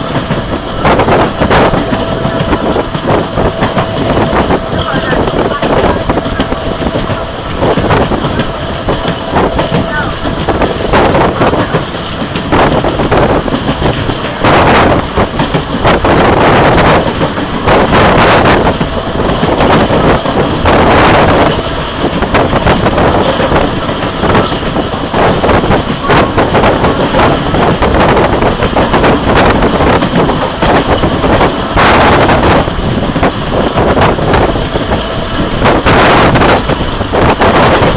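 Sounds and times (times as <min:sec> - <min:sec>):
train wheel and track noise: 0:00.0 - 0:37.9
wind buffeting microphone: 0:00.0 - 0:37.9.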